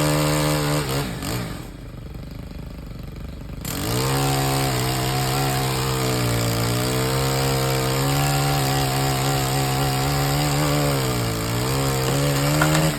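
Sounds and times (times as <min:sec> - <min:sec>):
pole saw engine at high revs: 0:00.0 - 0:01.8, 0:03.6 - 0:12.9.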